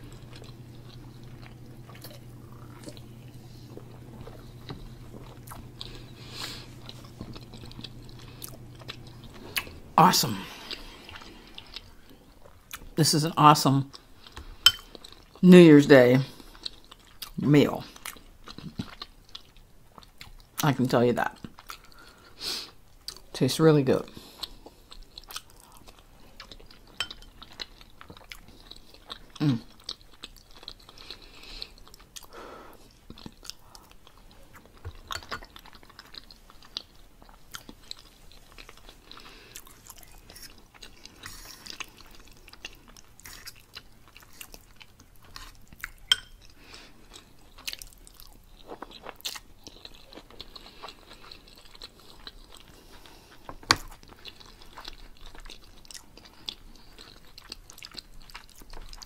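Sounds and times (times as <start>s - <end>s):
person chewing food: 0.0s - 13.0s, 13.8s - 15.4s, 16.2s - 20.7s, 21.3s - 23.4s, 24.0s - 59.0s.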